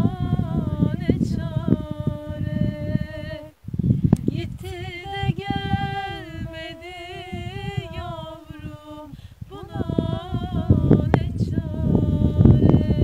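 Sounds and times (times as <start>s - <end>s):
person singing unaccompanied: 0.0s - 13.0s
wind buffeting microphone: 0.0s - 13.0s.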